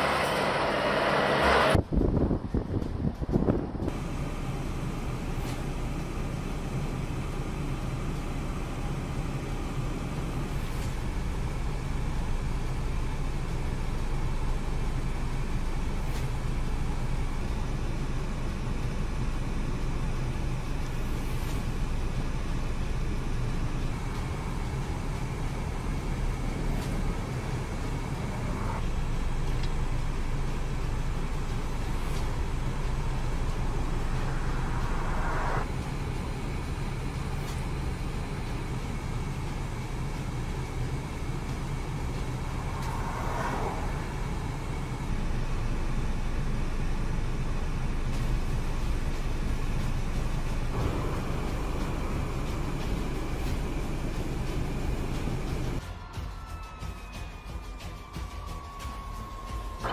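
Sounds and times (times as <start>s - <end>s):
heavy vehicle engines rumbling: 0.0s - 59.9s.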